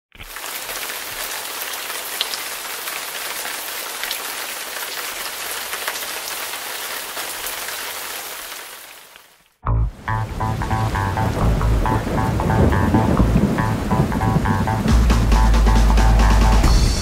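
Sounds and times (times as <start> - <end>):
rain falling on water: 0.1 - 16.6.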